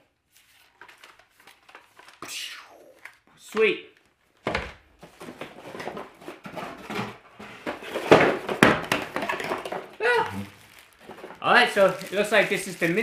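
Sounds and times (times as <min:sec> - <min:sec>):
cardboard and plastic bag crinkling: 0:00.2 - 0:02.2, 0:04.0 - 0:13.0.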